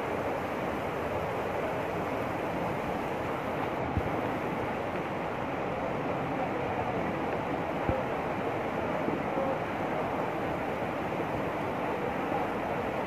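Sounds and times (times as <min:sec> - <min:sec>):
stream churning over rocks: 0:00.0 - 0:13.0
waterfall rushing: 0:00.0 - 0:13.0.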